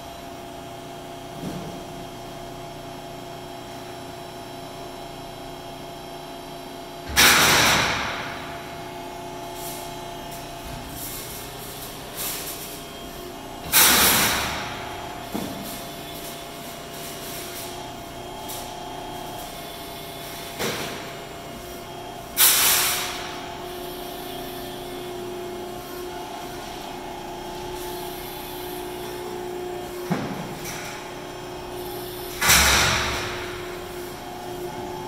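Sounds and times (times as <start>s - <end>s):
hydraulic power unit hum: 0.0s - 35.0s.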